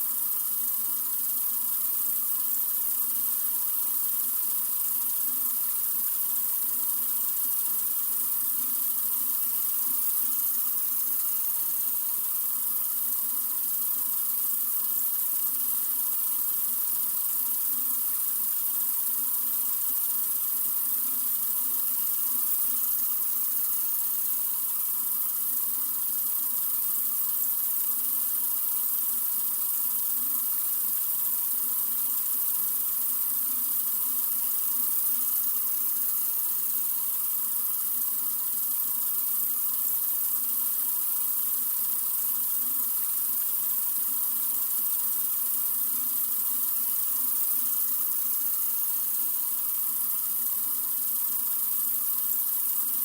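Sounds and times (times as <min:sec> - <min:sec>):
water running from sink faucet: 0:00.0 - 0:53.0.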